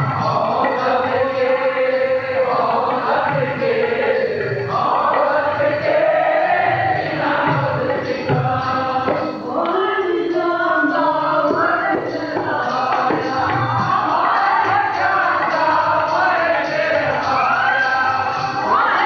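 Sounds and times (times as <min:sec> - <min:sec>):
harmonium: 0:00.0 - 0:19.0
men singing: 0:00.0 - 0:19.0
tabla drums: 0:00.0 - 0:19.0.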